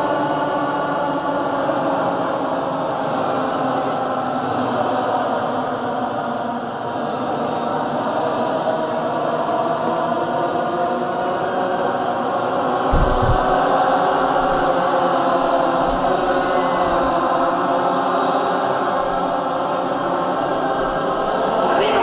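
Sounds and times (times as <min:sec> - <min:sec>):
group singing sustained notes: 0:00.0 - 0:22.0.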